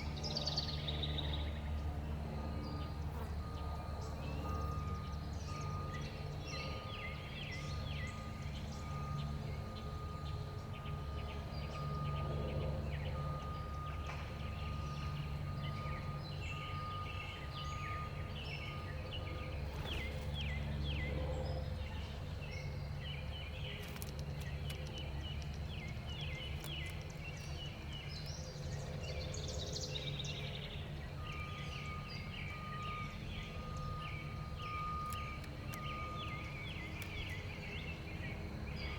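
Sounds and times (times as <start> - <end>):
songbirds chirping: 0.0 - 38.9
steady low rumble: 0.0 - 38.9.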